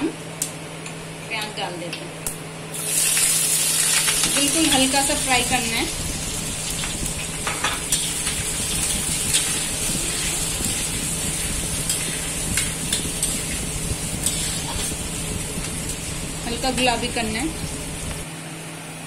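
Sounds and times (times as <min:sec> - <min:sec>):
onions sizzling in hot oil: 0:02.7 - 0:18.3.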